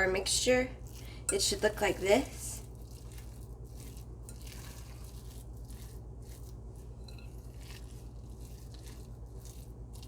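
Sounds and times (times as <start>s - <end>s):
creamy filling squishing: 0.0s - 10.0s
low electrical hum: 0.0s - 10.0s.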